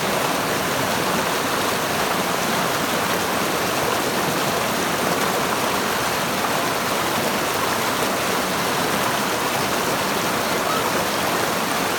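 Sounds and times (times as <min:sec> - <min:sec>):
river water babbling over rocks: 0:00.0 - 0:11.9.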